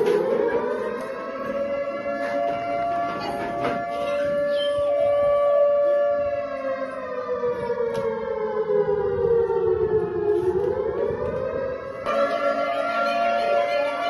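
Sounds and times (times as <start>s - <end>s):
air-raid siren wailing: 0.0s - 14.0s.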